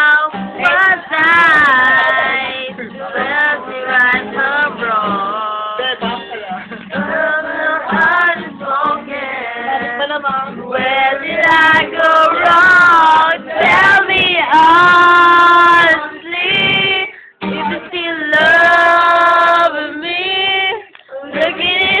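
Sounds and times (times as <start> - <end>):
woman singing lead: 0.0 - 6.3, 6.9 - 22.0
group singing: 0.0 - 22.0.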